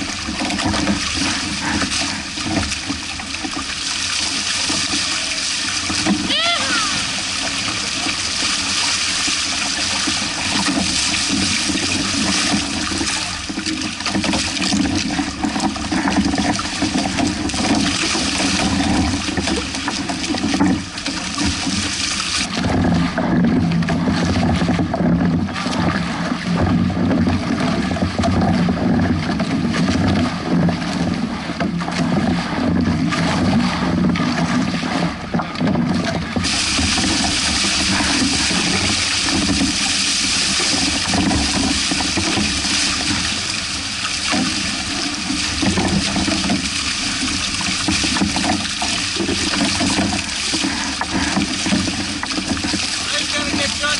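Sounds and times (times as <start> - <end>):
water rushing along boat hulls: 0.0 - 53.9.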